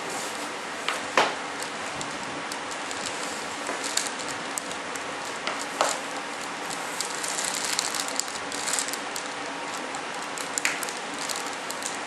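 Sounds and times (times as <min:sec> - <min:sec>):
fiberglass crackling and rustling: 0:00.0 - 0:12.0
steady background hiss: 0:00.0 - 0:12.0.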